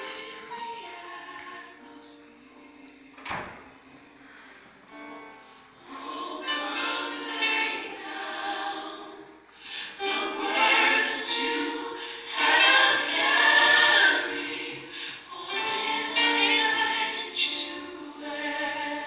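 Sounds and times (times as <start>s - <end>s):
gospel choir singing: 0.0s - 4.4s, 5.0s - 19.0s
music: 0.0s - 19.0s.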